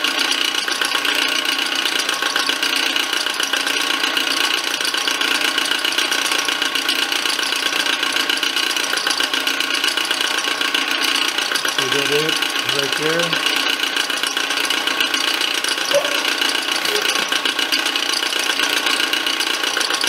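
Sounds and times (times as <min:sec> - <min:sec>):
fast even cutting rattle: 0:00.2 - 0:20.0.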